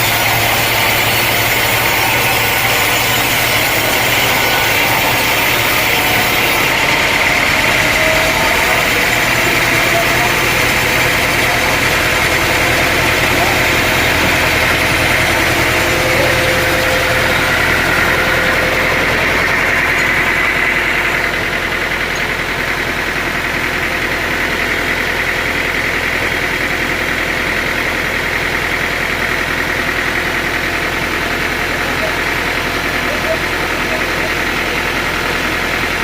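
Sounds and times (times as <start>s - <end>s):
high machine whine: 0.0s - 36.0s
sawmill engine drone: 0.0s - 36.0s.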